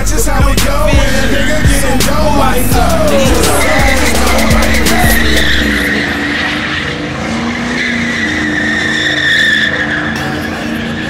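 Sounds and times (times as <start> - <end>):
car engine revving hard: 0.0 - 11.0
car tyres squealing: 0.0 - 11.0
hip-hop music with heavy bass: 0.0 - 11.0.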